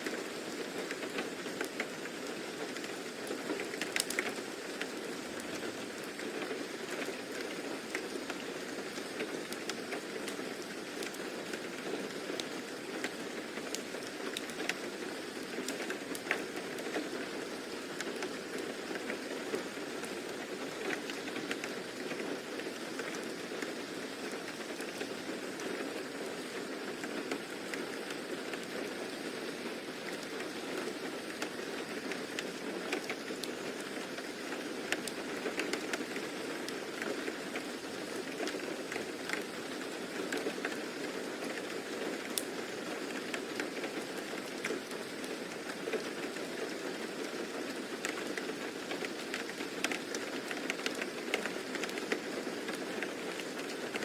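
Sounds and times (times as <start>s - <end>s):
steady rain falling: 0.0s - 54.0s
sharp raindrops landing close: 0.4s - 54.0s.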